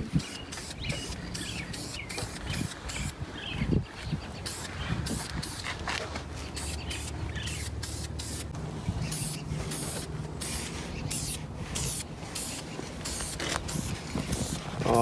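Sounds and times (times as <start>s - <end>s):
spray paint hissing bursts: 0.0s - 3.2s, 4.4s - 5.8s, 6.5s - 14.7s.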